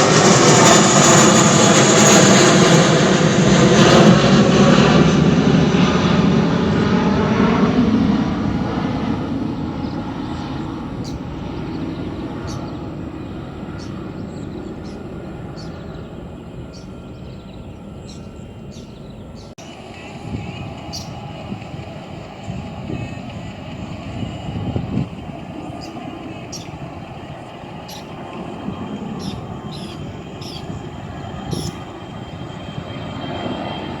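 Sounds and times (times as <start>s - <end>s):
airliner engines at takeoff: 0.0s - 34.0s.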